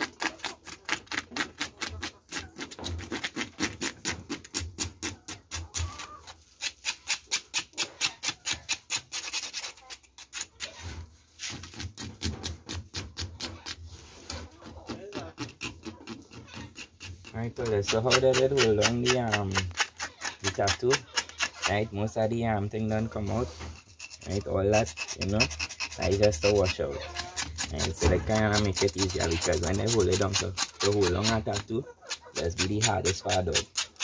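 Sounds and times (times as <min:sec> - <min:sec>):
knife scraping shell: 0:00.0 - 0:34.0.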